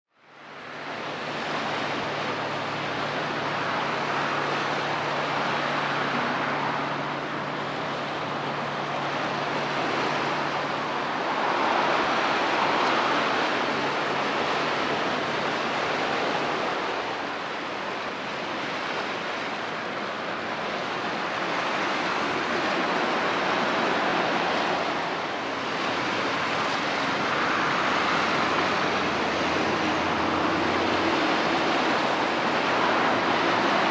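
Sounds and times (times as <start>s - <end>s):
sea water washing against shore: 0.4s - 33.9s.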